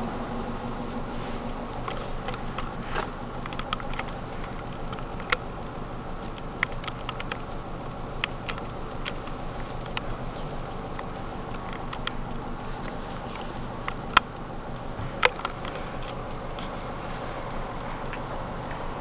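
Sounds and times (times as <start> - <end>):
car engine idling: 0.0 - 19.0
light ticks and taps: 0.0 - 19.0.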